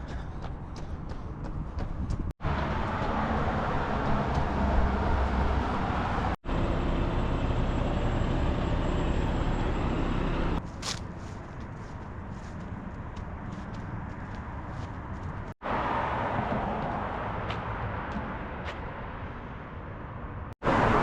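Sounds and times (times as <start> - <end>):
quiet street background: 0.0 - 21.0
road traffic roar: 0.0 - 21.0.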